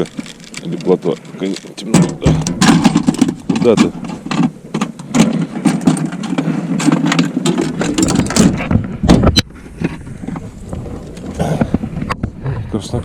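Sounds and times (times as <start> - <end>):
handling clicks and knocks in boat: 0.0 - 12.4.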